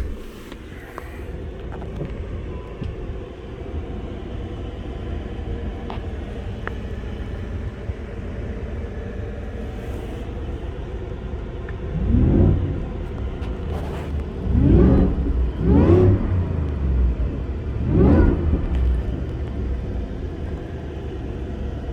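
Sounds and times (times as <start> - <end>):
truck engine idling and revving: 0.0 - 21.9.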